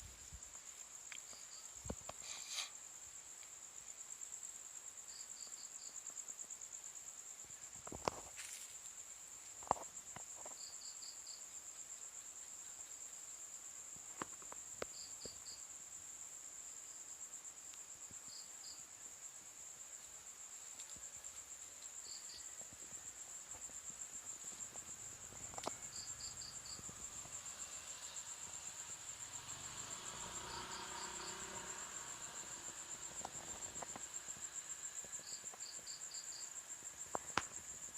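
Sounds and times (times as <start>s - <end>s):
cricket trill: 0.0s - 37.9s
insect chirps: 0.0s - 37.9s.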